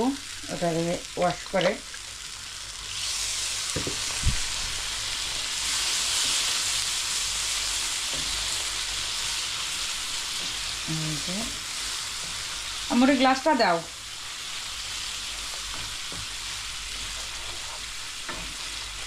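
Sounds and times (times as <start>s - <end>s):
spices sizzling in hot oil: 0.0s - 19.0s.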